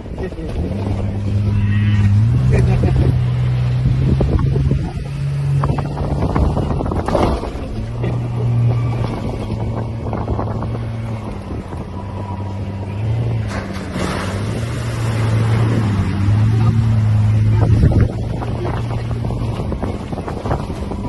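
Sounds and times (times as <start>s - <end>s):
car engine and tyres drone: 0.0s - 21.0s
wind noise: 2.6s - 21.0s.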